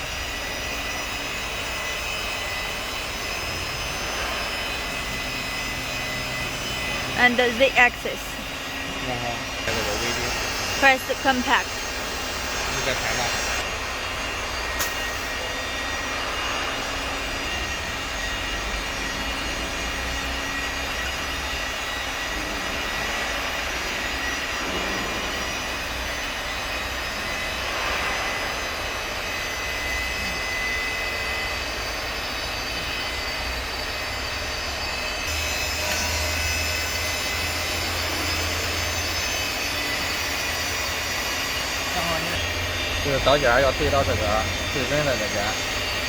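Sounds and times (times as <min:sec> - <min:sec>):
woodworking machinery running: 0:00.0 - 0:46.0.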